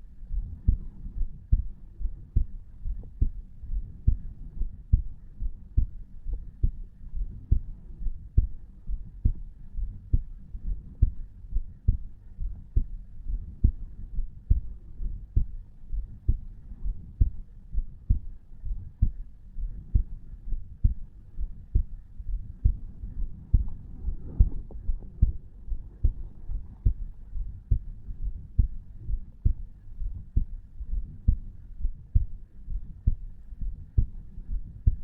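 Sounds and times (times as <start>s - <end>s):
heartbeat thuds: 0.0s - 35.0s.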